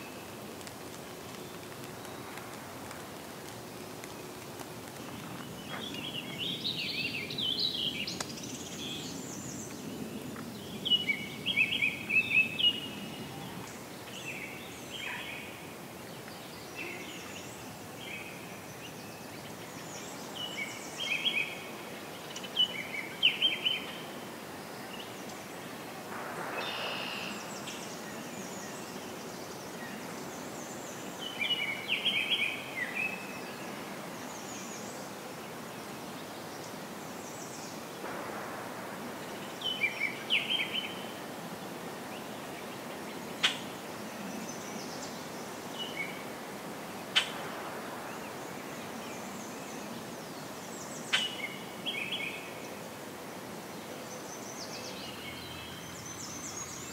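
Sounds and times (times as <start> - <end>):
outdoor background hiss: 0.0 - 56.9
songbirds singing: 0.0 - 56.9.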